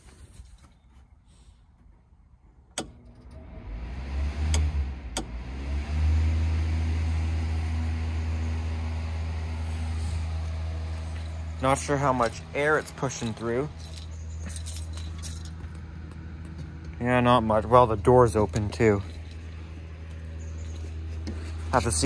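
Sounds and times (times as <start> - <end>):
fan motor hum: 2.8 - 22.0.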